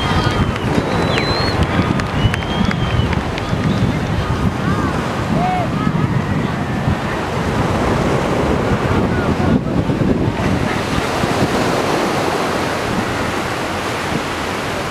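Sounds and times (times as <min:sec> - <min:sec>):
surf rushing on beach: 0:00.0 - 0:14.9
wind buffeting microphone: 0:00.0 - 0:14.9.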